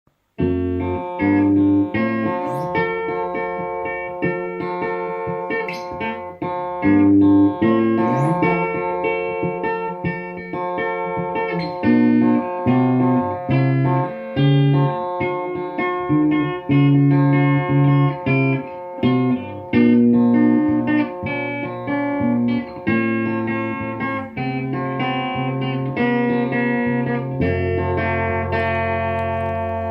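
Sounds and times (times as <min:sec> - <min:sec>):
guitar picked melody: 0:00.2 - 0:29.9.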